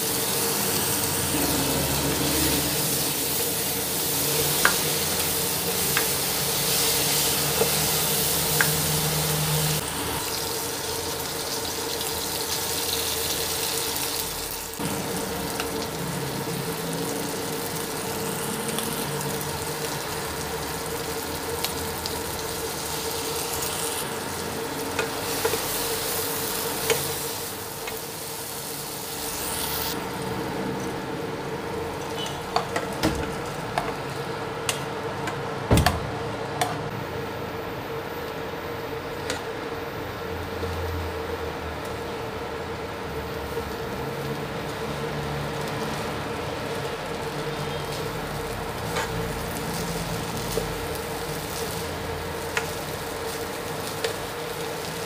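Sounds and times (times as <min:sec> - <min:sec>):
food sizzling in frying pan: 0:00.0 - 0:35.0, 0:40.0 - 0:55.0.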